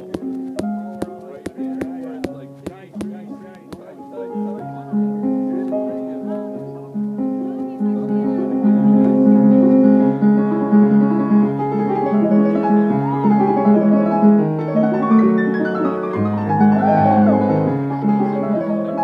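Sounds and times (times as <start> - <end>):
electronic keyboard piano music: 0.0 - 19.0.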